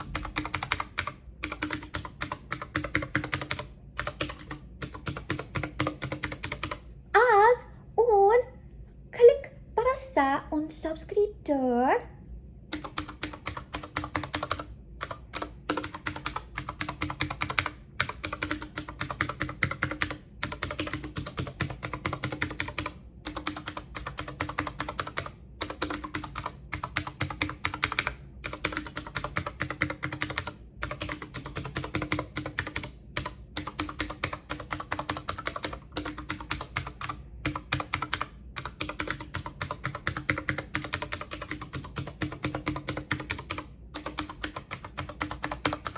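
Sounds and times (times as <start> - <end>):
fast typing on keyboard: 0.0 - 6.8, 12.7 - 45.9.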